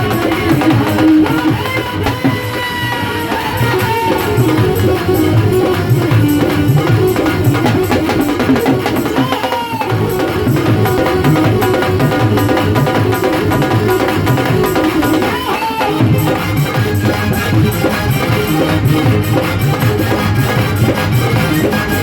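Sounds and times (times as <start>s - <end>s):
driving drum beat: 0.0s - 22.0s
sliding melody line: 2.8s - 22.0s.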